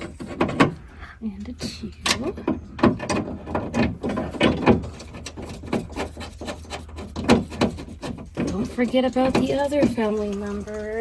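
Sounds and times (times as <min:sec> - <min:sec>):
metal clicks and knocks: 0:00.0 - 0:11.0.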